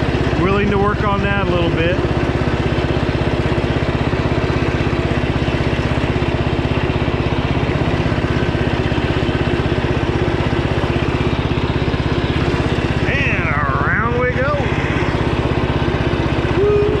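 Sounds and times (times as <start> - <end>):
lawn tractor engine running: 0.0 - 17.0.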